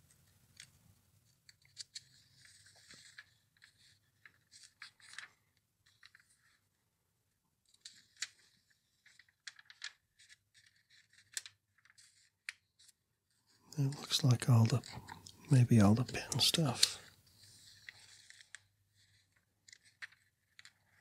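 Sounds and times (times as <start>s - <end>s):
catalog pages turning: 1.5s - 6.7s, 7.7s - 21.0s.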